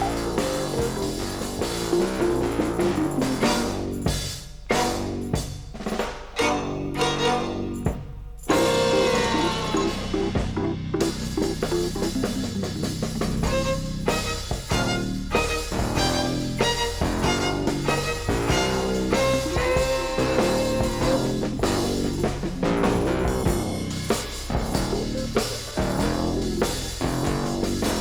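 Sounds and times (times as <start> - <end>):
rock music with drums and guitar: 0.0 - 6.5, 7.2 - 28.0.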